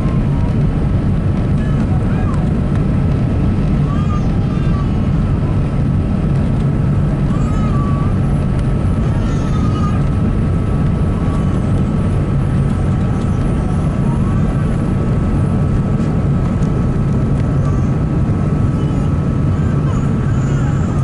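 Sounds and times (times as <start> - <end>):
airplane cabin engine roar: 0.0 - 21.0.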